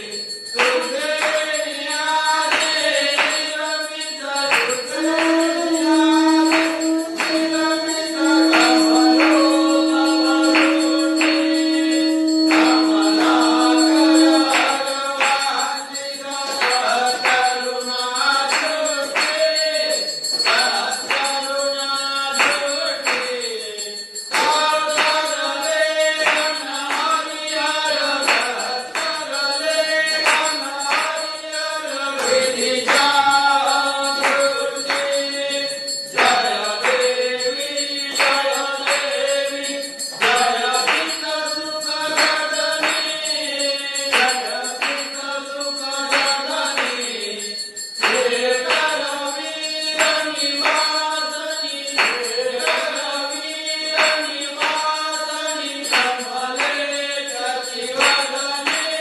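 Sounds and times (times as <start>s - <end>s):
devotional singing: 0.0s - 59.0s
jingling cymbal-like percussion: 0.0s - 59.0s.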